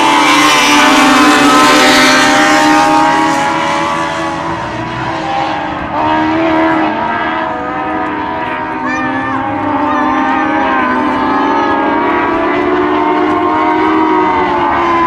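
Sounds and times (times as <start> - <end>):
car engine accelerating: 0.0 - 15.0
race car engines passing: 0.0 - 15.0.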